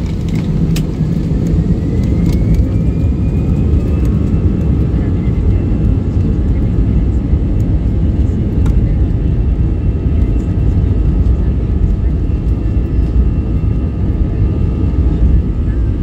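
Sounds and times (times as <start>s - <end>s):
faint engine whine: 0.0s - 16.0s
jet engines rumbling: 0.0s - 16.0s.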